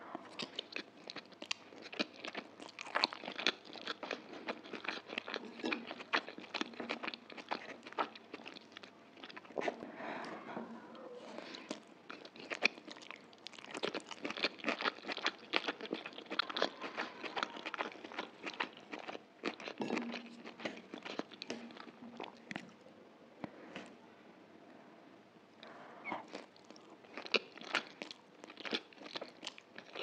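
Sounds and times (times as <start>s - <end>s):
person chewing noodles: 0.2s - 9.8s, 11.4s - 22.7s, 25.6s - 30.0s.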